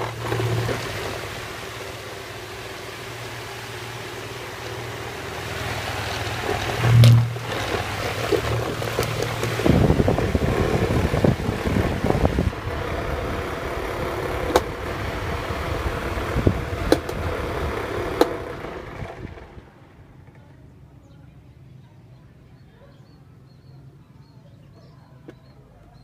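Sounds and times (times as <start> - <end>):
fan airflow buffeting microphone: 0.0 - 22.5.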